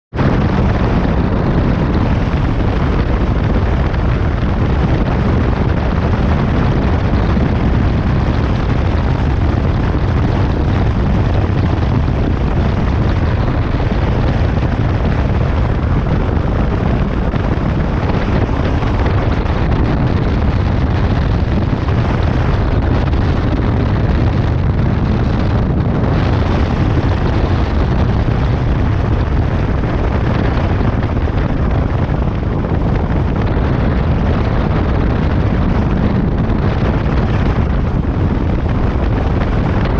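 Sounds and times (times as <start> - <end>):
motorcycle engine running: 0.1 - 39.9
wind buffeting microphone: 0.1 - 39.9.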